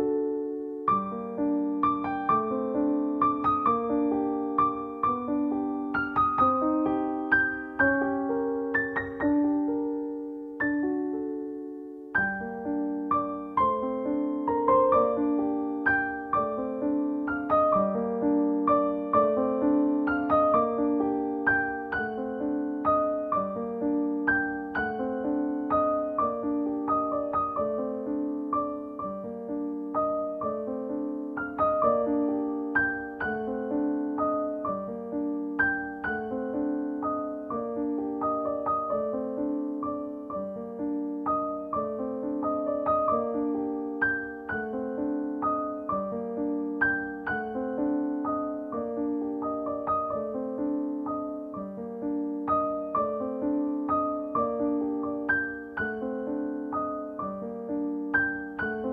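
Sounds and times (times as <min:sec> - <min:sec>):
soft piano music: 0:00.0 - 0:58.9.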